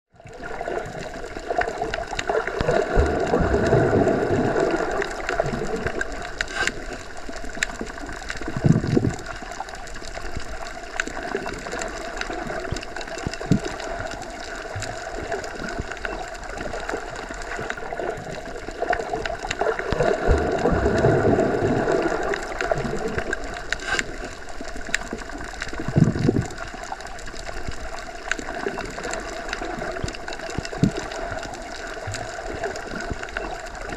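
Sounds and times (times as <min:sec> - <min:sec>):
muffled underwater rush: 0:00.2 - 0:33.9
water gush: 0:00.2 - 0:33.9.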